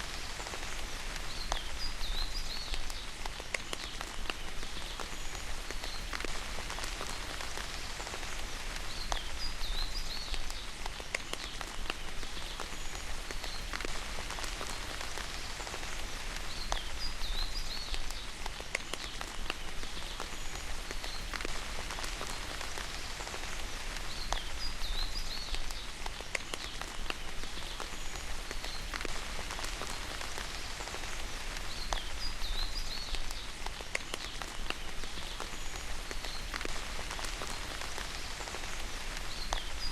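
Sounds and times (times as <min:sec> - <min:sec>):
raindrops pattering: 0:00.0 - 0:39.9.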